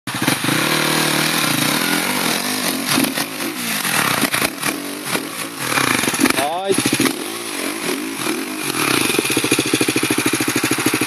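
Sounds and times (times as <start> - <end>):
dirt bike engine revving: 0.1 - 11.0.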